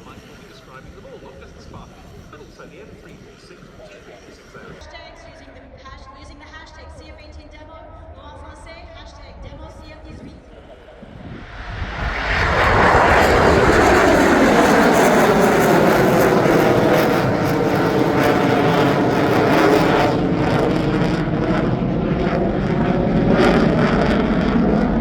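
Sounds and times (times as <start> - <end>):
aircraft engine roar passing: 0.0 - 4.8, 9.4 - 25.0.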